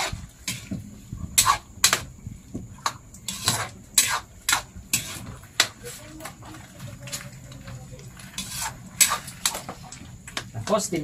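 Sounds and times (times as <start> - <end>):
spatula scraping a wok: 0.0 - 10.6.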